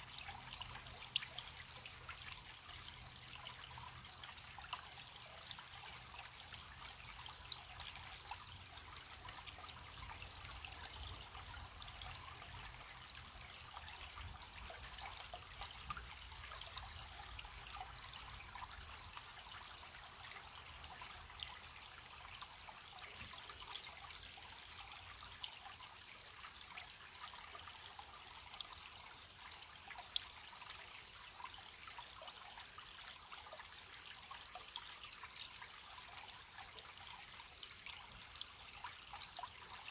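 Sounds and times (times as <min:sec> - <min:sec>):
stream trickling: 0:00.0 - 0:39.9
crickets chirping: 0:00.1 - 0:39.9.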